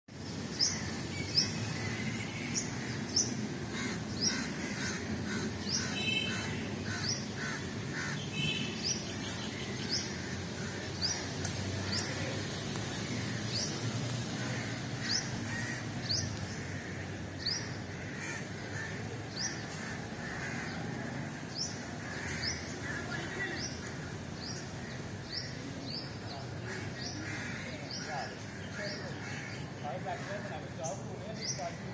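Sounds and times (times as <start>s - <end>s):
other birds calling: 0.4s - 31.9s.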